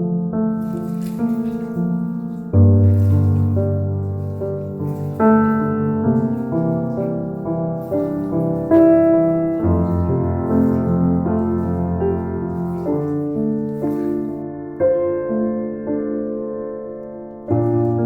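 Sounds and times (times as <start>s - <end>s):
soft piano melody: 0.0s - 18.0s.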